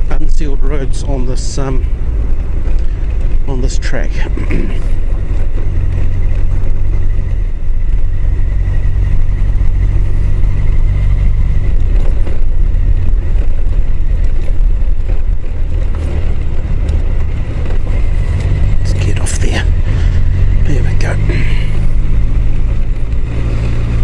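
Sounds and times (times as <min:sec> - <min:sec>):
faint constant whine: 0:00.0 - 0:24.0
heavy wind rumble on microphone: 0:00.0 - 0:24.0
motorcycle engine running: 0:00.0 - 0:24.0.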